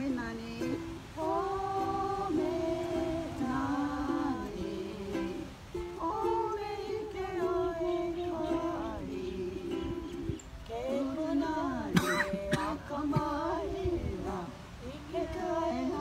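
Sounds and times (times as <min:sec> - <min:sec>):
group of voices singing: 0:00.0 - 0:16.0
ukulele: 0:00.0 - 0:16.0.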